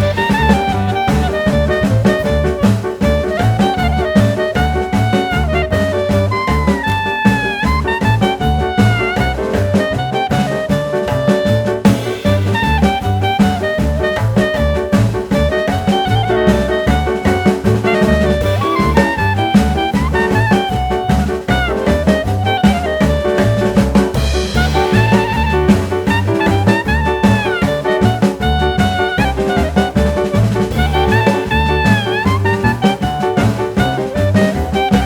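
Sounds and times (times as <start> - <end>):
steady drum beat: 0.0 - 35.0
swing jazz music with brass: 0.0 - 35.0.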